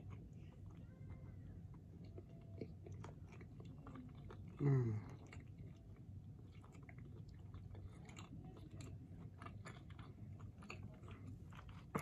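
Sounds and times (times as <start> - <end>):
low steady hum: 0.0 - 12.0
person chewing: 1.7 - 12.0.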